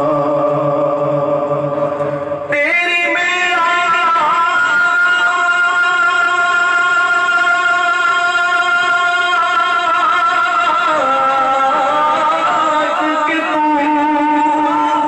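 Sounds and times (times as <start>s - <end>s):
man singing a long note: 0.0s - 15.0s.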